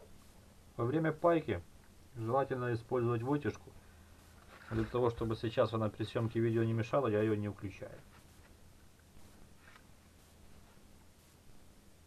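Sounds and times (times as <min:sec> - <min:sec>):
faint low hum: 0:00.0 - 0:12.0
soft faint noises: 0:00.0 - 0:12.0.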